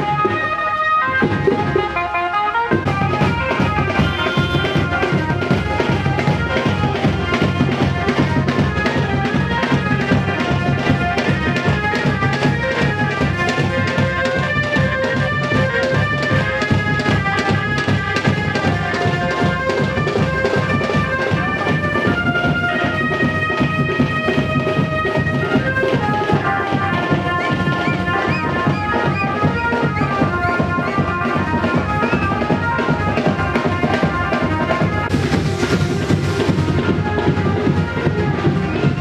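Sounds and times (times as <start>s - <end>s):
dance music with fast drum beat: 2.9s - 38.0s.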